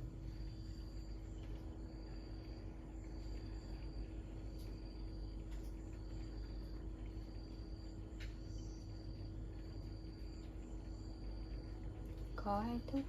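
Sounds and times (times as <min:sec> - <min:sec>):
insects trilling: 0:00.0 - 0:13.0
low hum: 0:00.0 - 0:13.0.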